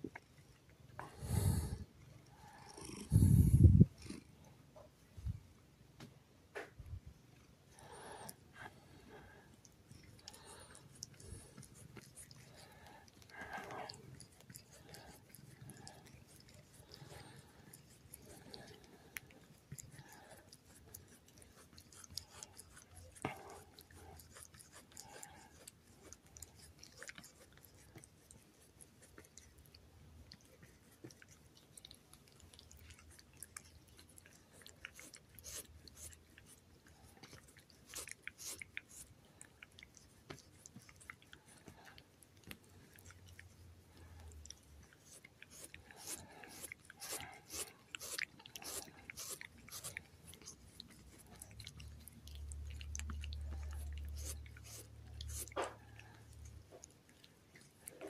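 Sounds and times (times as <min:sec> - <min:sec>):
cat licking skin: 0:00.0 - 0:04.9, 0:07.3 - 0:58.0.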